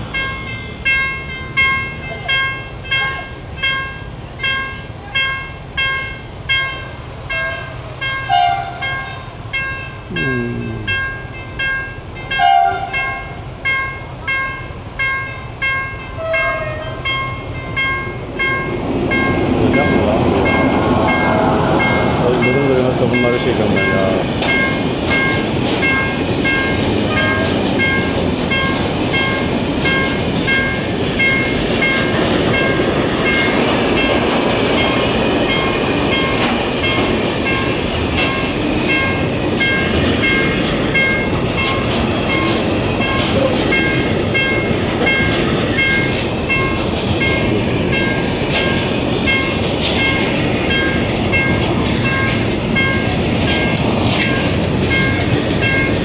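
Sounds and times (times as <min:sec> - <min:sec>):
crossing warning bell ringing: 0:00.0 - 0:56.0
train wheels clattering on rails: 0:00.0 - 0:56.0.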